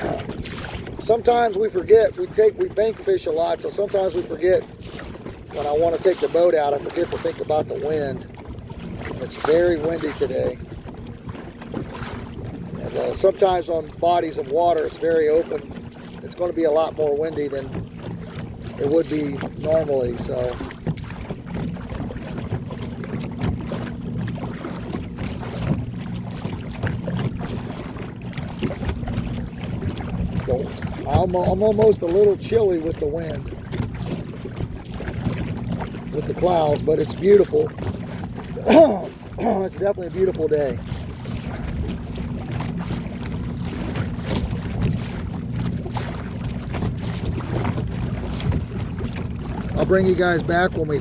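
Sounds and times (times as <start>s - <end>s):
boat motor running: 0.0s - 51.0s
wind on microphone: 0.0s - 51.0s.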